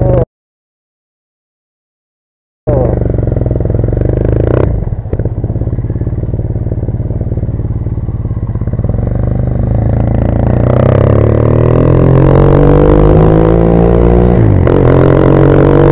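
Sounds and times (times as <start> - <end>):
motorcycle engine running: 2.7 - 15.9.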